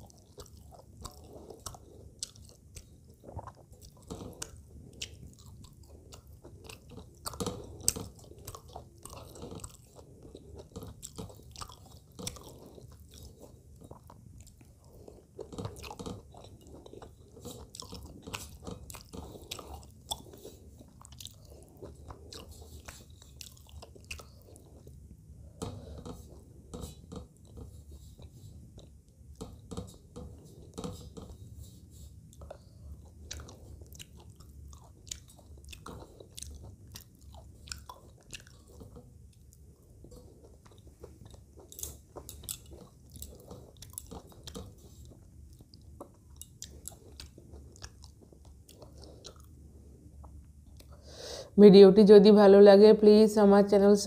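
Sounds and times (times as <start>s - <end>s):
wet chewing: 0.0s - 51.0s.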